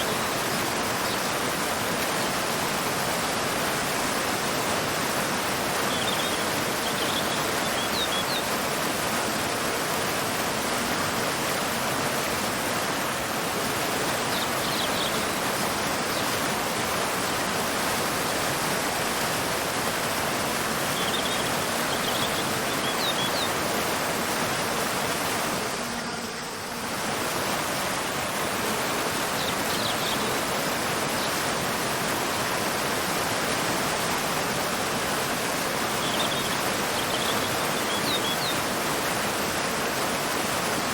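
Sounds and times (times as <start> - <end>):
waterfall rushing: 0.0 - 25.9, 26.6 - 40.9.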